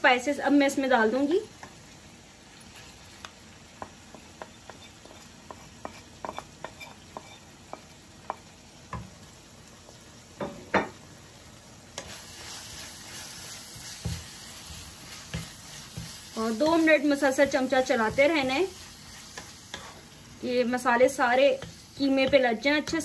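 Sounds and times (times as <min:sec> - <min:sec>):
meat frying in a pan: 0:00.0 - 0:23.0.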